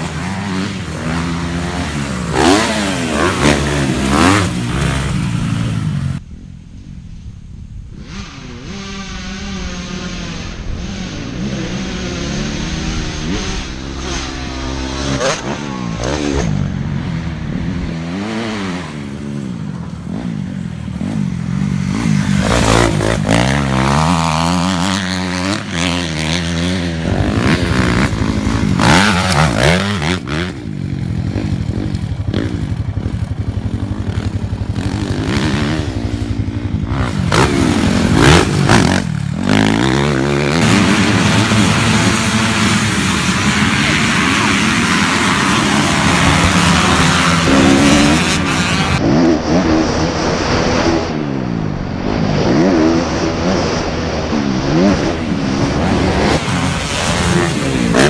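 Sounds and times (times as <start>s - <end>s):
dirt bike engine revving: 0.0s - 6.2s, 8.0s - 58.0s.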